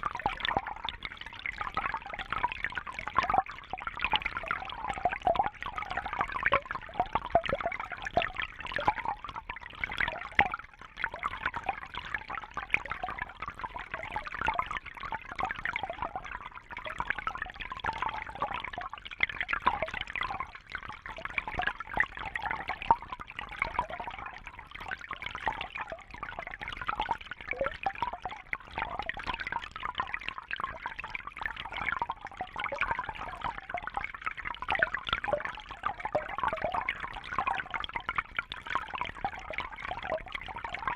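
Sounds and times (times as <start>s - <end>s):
aquarium water trickling: 0.0s - 40.9s
water dripping and bubbling: 0.0s - 40.9s.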